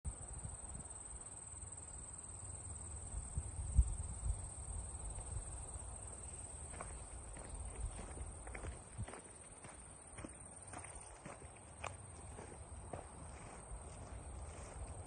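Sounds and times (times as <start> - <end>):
insects trilling: 0.1 - 15.0.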